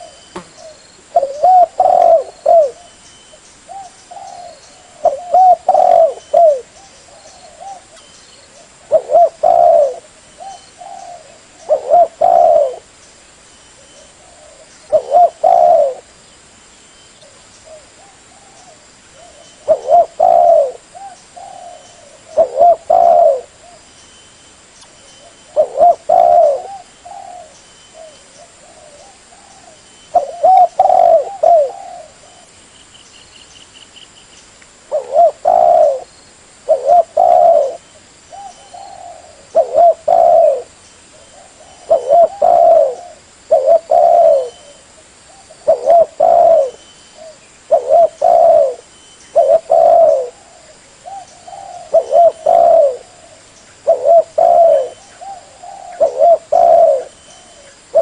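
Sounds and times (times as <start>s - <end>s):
dove cooing: 0.0s - 3.0s, 3.7s - 12.9s, 13.8s - 16.1s, 17.2s - 23.9s, 25.2s - 32.6s, 34.9s - 36.1s, 36.7s - 58.0s.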